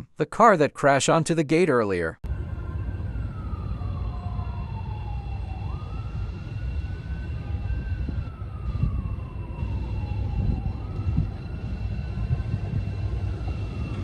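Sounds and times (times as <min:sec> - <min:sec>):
wailing siren: 0:02.2 - 0:14.0
train rumbling: 0:02.3 - 0:14.0.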